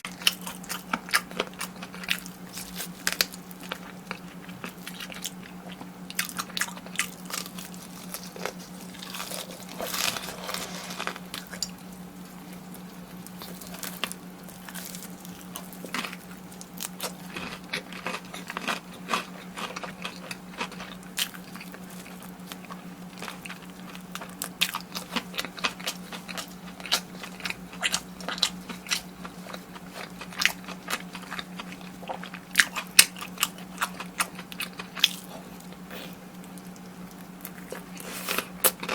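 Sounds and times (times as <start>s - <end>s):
crunching crisp fried food: 0.0s - 38.9s.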